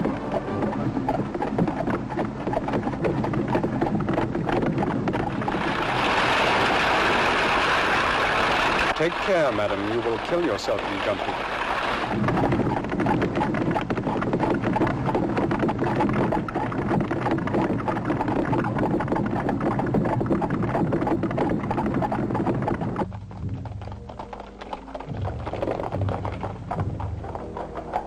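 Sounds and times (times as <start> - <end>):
carriage wheels rattling: 0.0 - 28.0
horse hooves clattering: 0.0 - 28.0.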